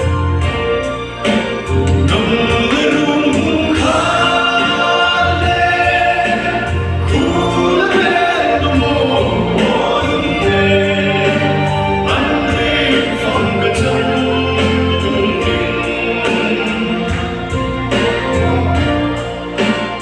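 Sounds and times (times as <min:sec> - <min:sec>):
backing music with bass line: 0:00.0 - 0:20.0
man singing into microphone: 0:01.9 - 0:18.6.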